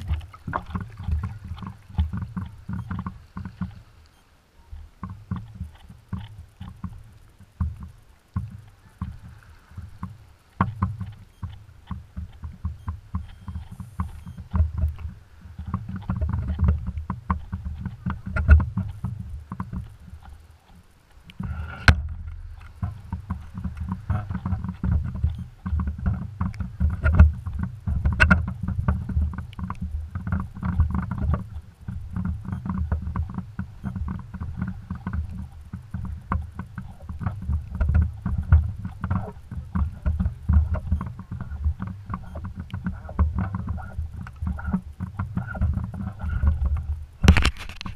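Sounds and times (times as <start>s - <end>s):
clicks and knocks: 0.0s - 47.9s
water sloshing against housing: 0.0s - 47.9s.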